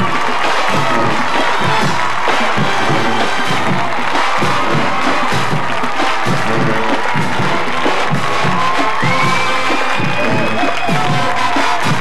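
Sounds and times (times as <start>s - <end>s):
marching band playing: 0.0s - 12.0s
steady drum beat: 0.0s - 12.0s.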